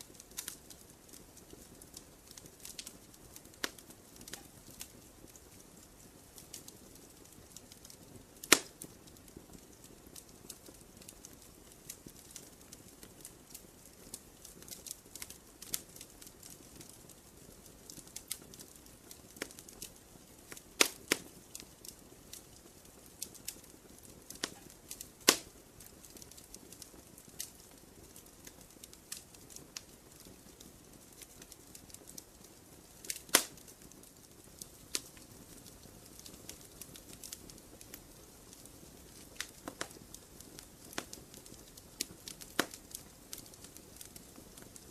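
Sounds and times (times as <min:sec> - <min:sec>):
loud pops from fire: 0:00.0 - 0:44.9
wood fire crackling: 0:00.0 - 0:44.9.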